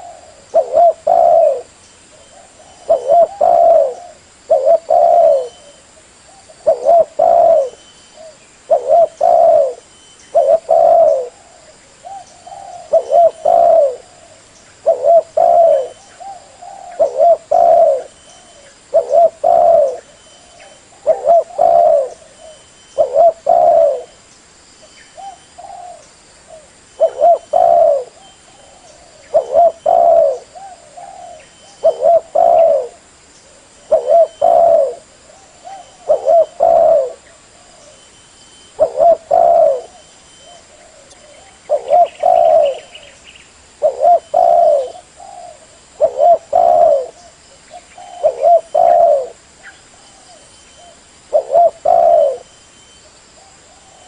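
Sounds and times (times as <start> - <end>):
dove cooing: 0.0 - 24.2, 25.2 - 43.2, 43.8 - 52.6, 53.3 - 54.0.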